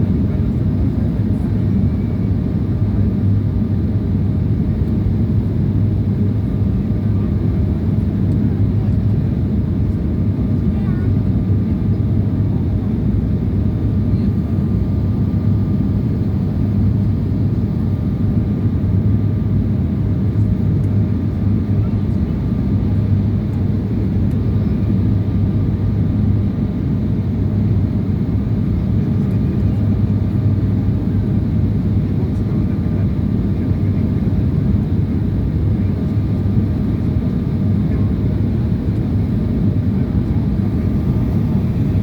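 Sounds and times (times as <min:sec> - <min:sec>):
airliner cabin drone: 0:00.0 - 0:42.0.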